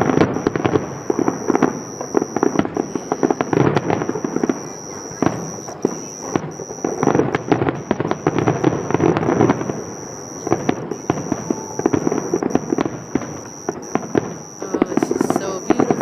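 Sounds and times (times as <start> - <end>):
fireworks cracking and popping: 0.0 - 16.0.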